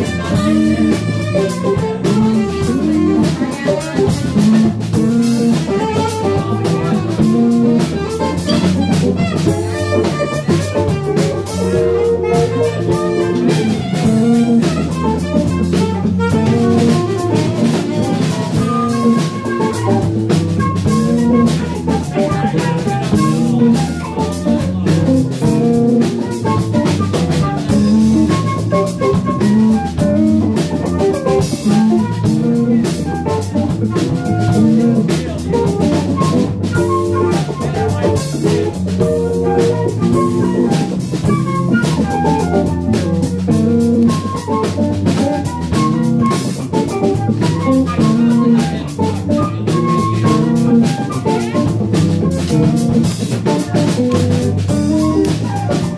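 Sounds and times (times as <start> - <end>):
drum kit: 0.0 - 55.9
electric bass: 0.0 - 55.9
electric guitar: 0.0 - 55.9.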